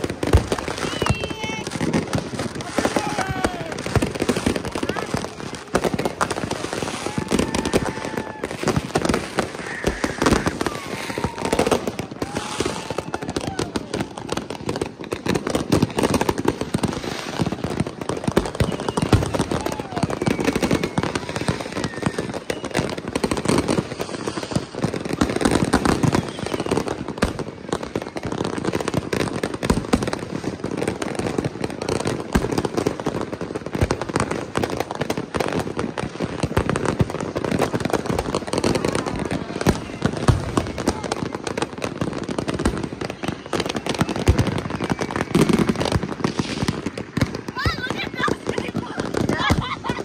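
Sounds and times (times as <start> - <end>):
fireworks crackling and banging: 0.0 - 50.0.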